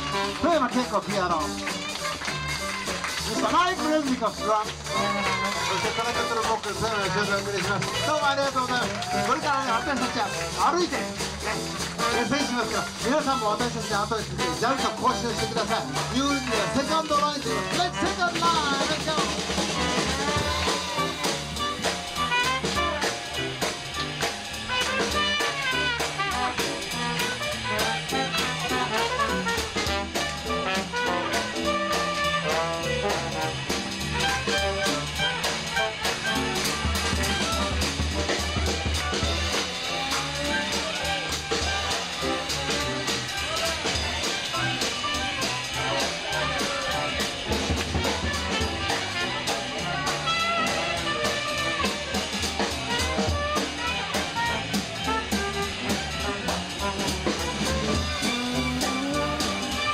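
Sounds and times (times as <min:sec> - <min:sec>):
lively jazz band playing: 0:00.0 - 0:59.9.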